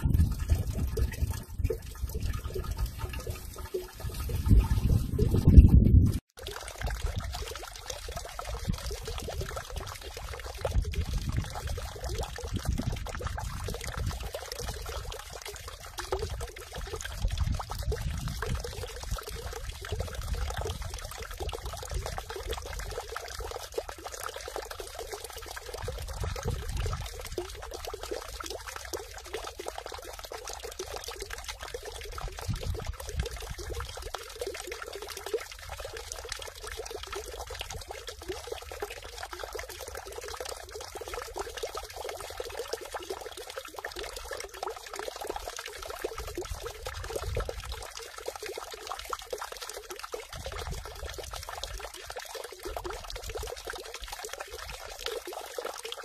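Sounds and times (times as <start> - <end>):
water splashing into stone basin: 0.0 - 56.0.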